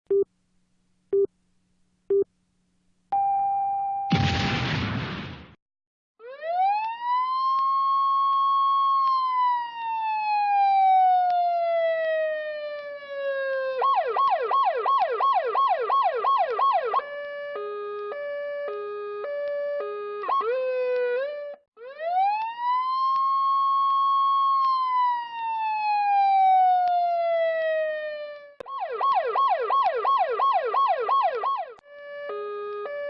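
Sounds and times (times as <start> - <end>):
electronic siren wailing and yelping: 6.2 - 33.0.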